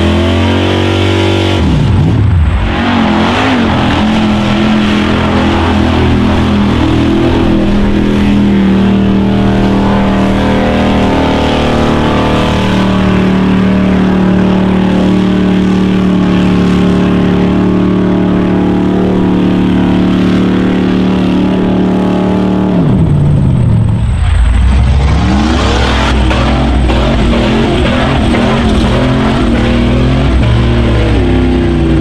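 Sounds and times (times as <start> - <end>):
truck engine revving high: 0.0 - 32.0
tyres churning through mud: 0.0 - 32.0.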